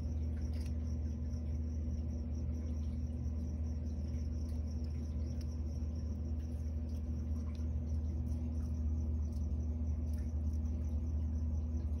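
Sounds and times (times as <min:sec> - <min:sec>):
faint high whine: 0:00.0 - 0:12.0
low hum: 0:00.0 - 0:12.0.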